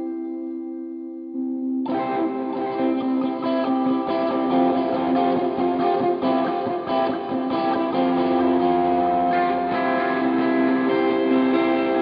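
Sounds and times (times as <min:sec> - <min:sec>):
electric guitar chords and notes: 0:00.0 - 0:12.0.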